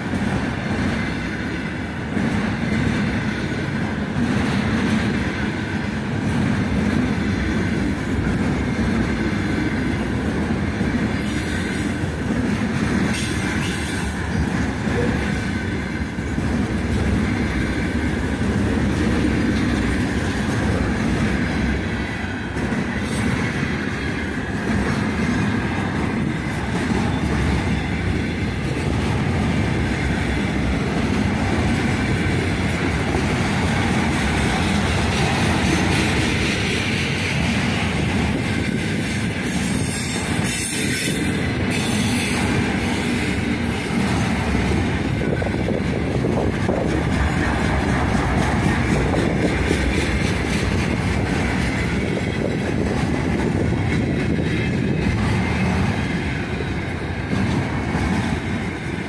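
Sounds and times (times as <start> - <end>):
clickety-clack of rail joints: 0.0 - 59.0
train wheels rumbling on rails: 0.0 - 59.0.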